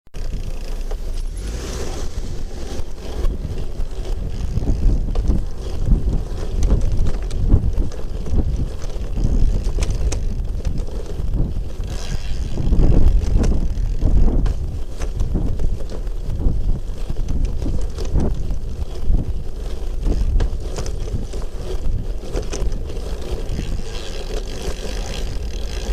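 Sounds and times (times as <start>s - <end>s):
bicycle riding: 0.2s - 25.9s
wind buffeting microphone: 0.2s - 25.9s.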